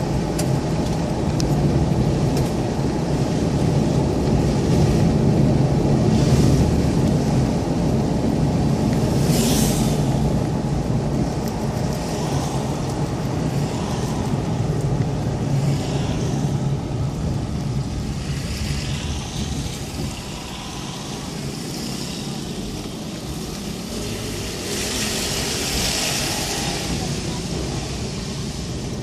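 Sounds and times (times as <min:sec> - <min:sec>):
car engine hum: 0:00.0 - 0:29.0
tyres hissing on wet road: 0:00.0 - 0:29.0.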